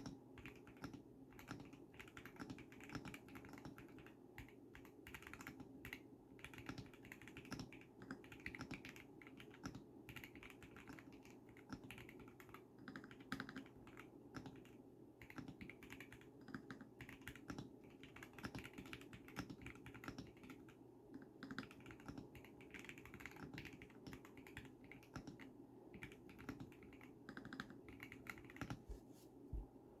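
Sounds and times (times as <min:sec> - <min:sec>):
mechanical keyboard typing: 0:00.0 - 0:28.8.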